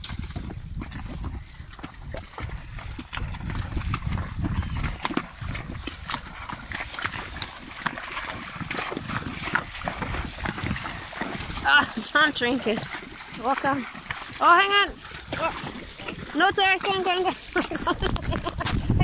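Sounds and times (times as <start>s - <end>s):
hooves splashing through water: 0.0s - 19.0s.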